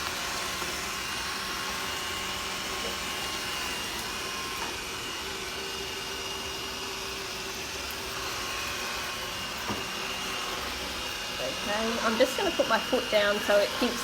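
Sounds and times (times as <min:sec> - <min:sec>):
robot vacuum cleaner whirring: 0:00.0 - 0:14.0.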